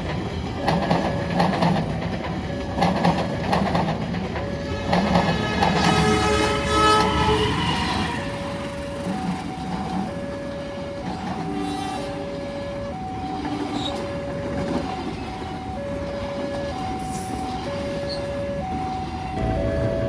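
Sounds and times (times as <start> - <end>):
two-tone crossing warning alarm: 0.0 - 20.0.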